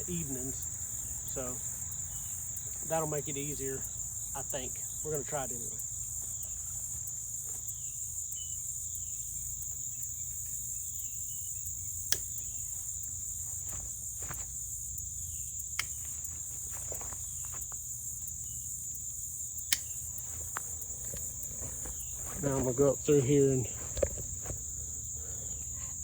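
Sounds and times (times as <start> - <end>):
insects chorus: 0.0 - 26.0.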